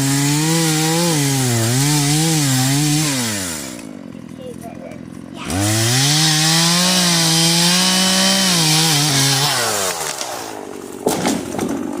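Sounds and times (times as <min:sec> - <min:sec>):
chainsaw revving: 0:00.0 - 0:12.0.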